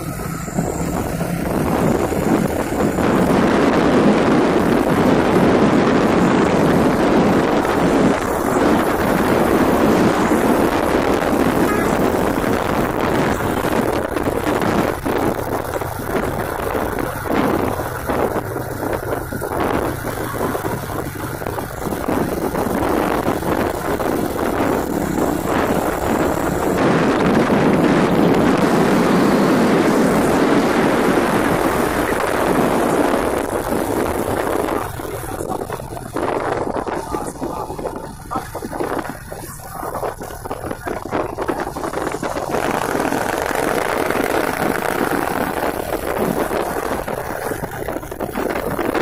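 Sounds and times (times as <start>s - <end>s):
road noise: 0.0s - 49.0s
truck engines: 0.0s - 49.0s
wind buffeting microphone: 0.0s - 49.0s.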